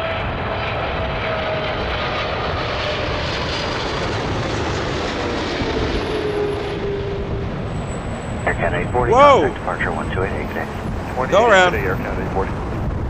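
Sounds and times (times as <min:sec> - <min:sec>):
faint engine whine: 0:00.0 - 0:13.0
jet engines rushing: 0:00.0 - 0:13.0.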